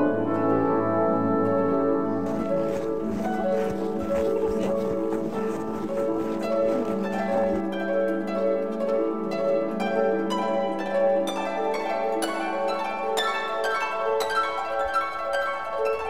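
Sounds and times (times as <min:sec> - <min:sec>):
plucked-string melody: 0:00.0 - 0:16.0.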